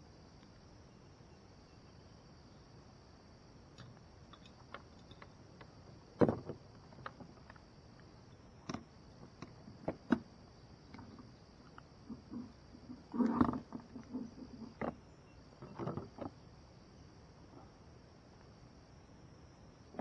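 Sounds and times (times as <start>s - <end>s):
steady high-pitched hiss: 0.0s - 20.0s.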